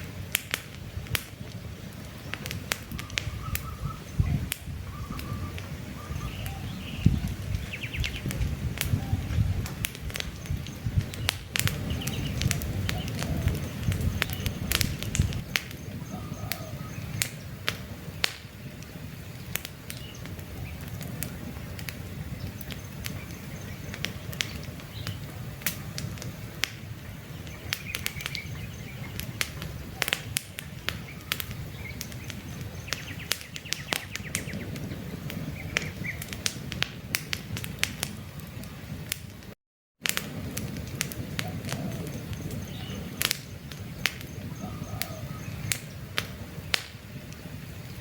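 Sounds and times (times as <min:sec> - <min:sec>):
campfire crackling and popping: 0:00.0 - 0:48.0
low rumble of flames: 0:00.0 - 0:48.0.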